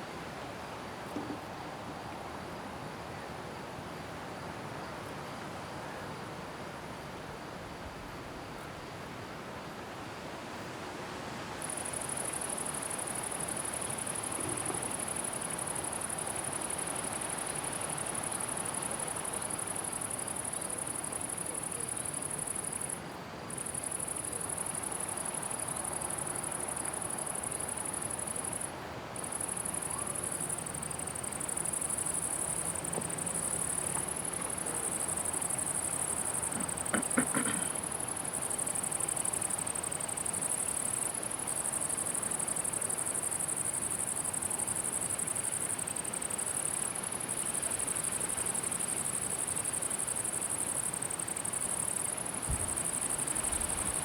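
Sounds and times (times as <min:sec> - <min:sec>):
open-air ambience hiss: 0:00.0 - 0:54.0.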